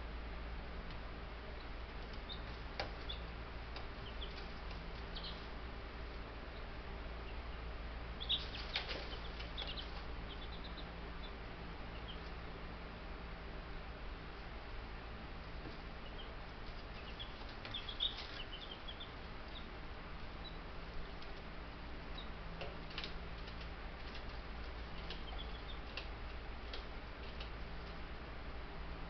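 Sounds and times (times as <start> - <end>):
steady low hum: 0.0 - 29.0
chicks peeping: 0.9 - 12.7, 15.4 - 28.1.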